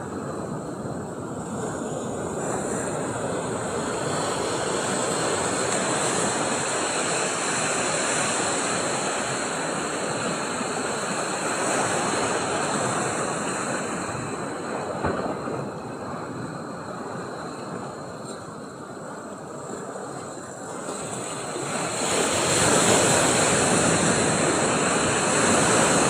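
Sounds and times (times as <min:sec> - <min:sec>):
sea surf breaking: 0:00.0 - 0:26.0.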